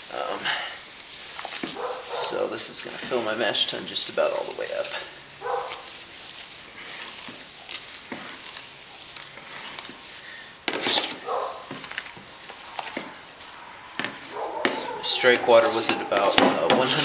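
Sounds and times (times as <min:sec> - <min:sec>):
spoon stirring thick mash: 0:00.4 - 0:17.0.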